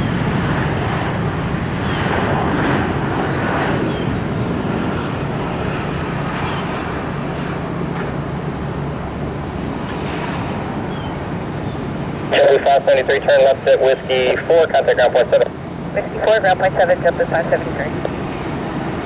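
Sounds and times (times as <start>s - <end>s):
jet engine roar: 0.0s - 19.0s.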